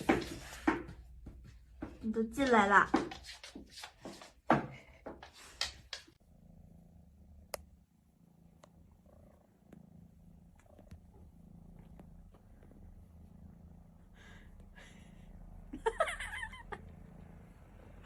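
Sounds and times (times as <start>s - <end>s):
cat purring: 1.1s - 18.0s.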